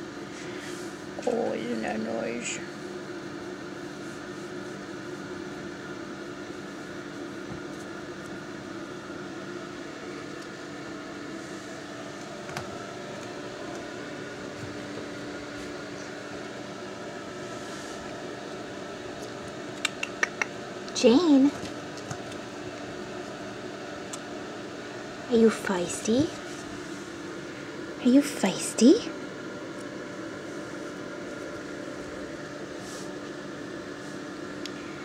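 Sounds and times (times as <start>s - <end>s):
fan or air conditioner hum: 0.0s - 35.0s.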